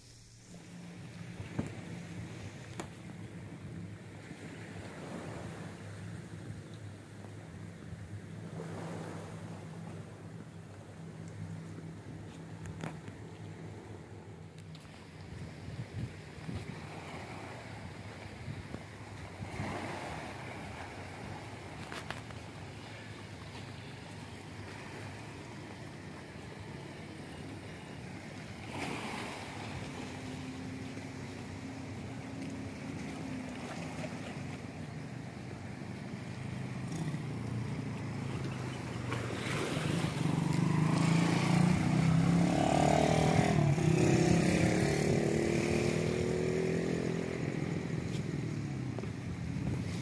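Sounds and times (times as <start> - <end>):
outdoor noise: 0.0 - 50.0.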